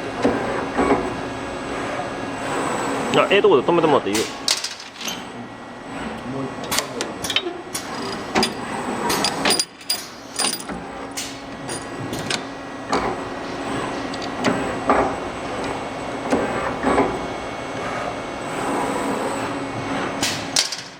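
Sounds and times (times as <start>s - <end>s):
machine motor hum: 0.0s - 20.8s.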